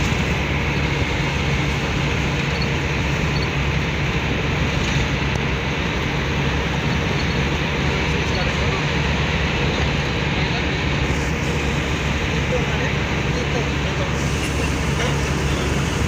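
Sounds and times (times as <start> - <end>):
constant low hum: 0.0 - 16.0
road noise: 0.0 - 16.0
van engine drone: 0.0 - 16.0.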